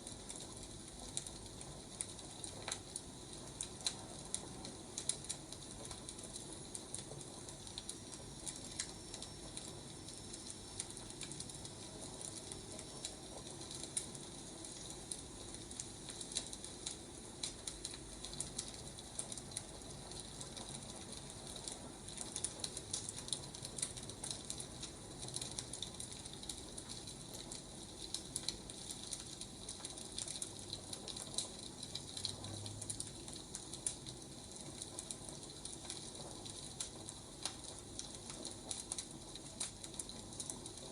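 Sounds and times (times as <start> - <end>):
firewood crackling and popping: 0.0 - 40.9
soft fire hiss: 0.0 - 40.9.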